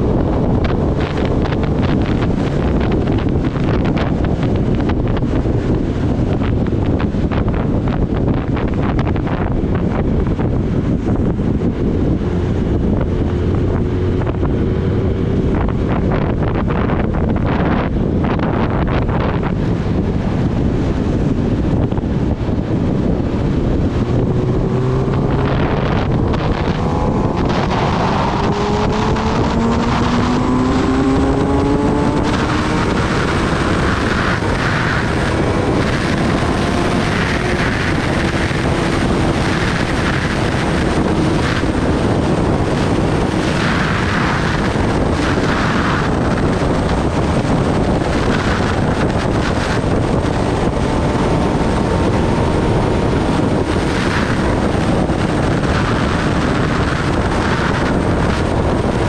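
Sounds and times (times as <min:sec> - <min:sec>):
motorcycle engine accelerating: 0:00.0 - 0:59.0
wind buffeting microphone: 0:00.0 - 0:59.0.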